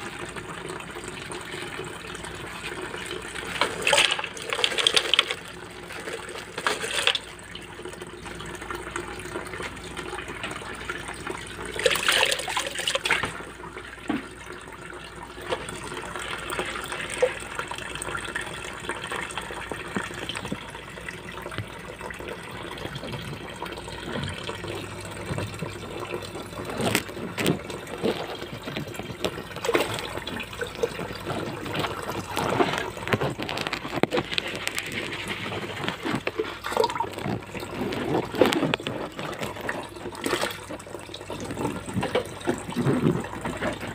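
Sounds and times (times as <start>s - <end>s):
water running and splashing: 0.0s - 43.9s.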